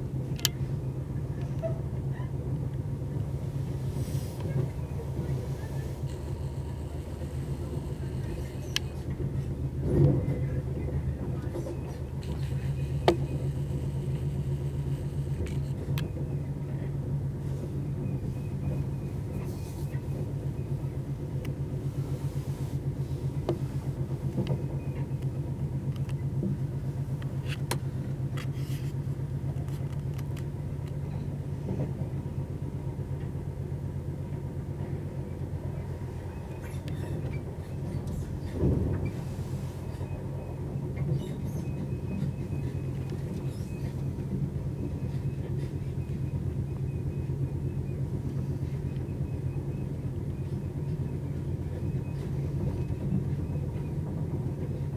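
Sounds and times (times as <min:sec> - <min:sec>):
train rumble and hum: 0:00.0 - 0:54.9.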